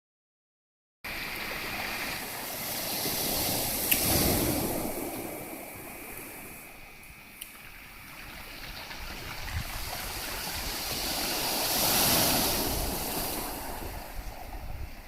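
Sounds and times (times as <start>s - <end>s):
gentle waves washing on shore: 1.1s - 15.0s.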